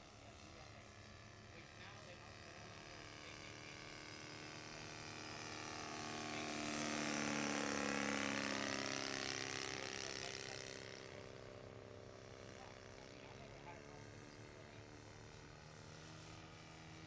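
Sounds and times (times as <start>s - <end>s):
model plane engine passing overhead: 0.0s - 17.0s.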